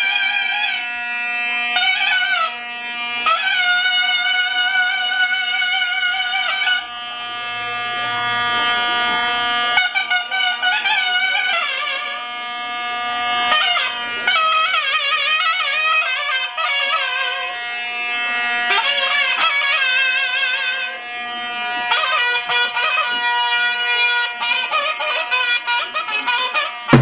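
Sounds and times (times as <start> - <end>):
zurna folk melody: 0.0 - 27.0.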